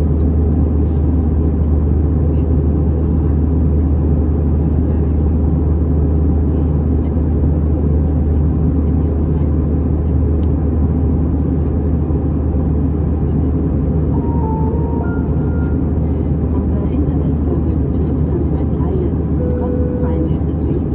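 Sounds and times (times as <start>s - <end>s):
airplane cabin engine drone: 0.0s - 20.9s.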